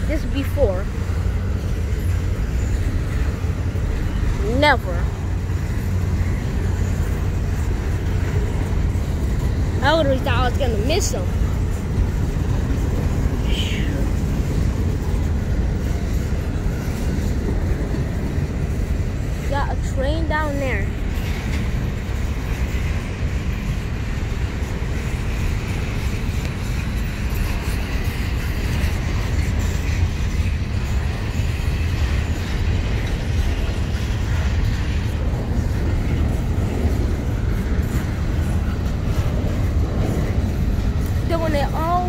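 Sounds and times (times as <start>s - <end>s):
freight train rumbling: 0.0s - 42.0s.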